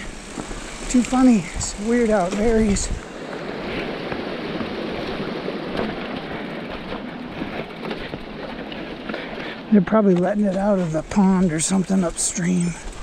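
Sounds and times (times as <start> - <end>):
bike tyres rolling on dirt: 0.0 - 13.0.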